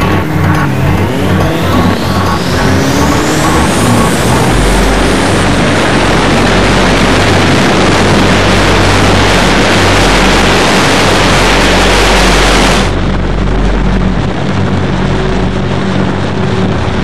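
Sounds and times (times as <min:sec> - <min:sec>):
low engine drone: 0:00.0 - 0:17.0
wind rushing over microphone: 0:00.0 - 0:17.0.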